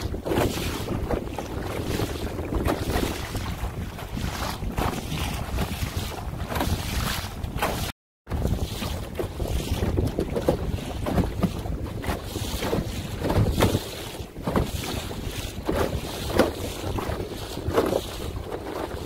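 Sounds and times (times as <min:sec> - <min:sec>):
small waves splashing against canoe: 0:00.0 - 0:19.0
wind buffeting microphone: 0:00.0 - 0:19.0.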